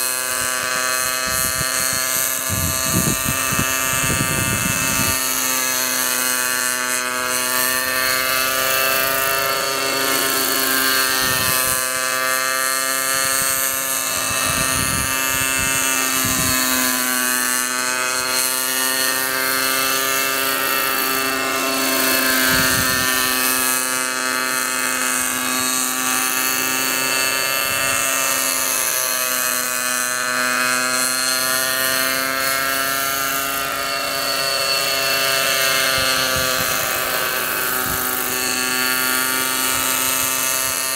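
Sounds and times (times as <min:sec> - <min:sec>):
model helicopter whine: 0:00.0 - 0:40.9.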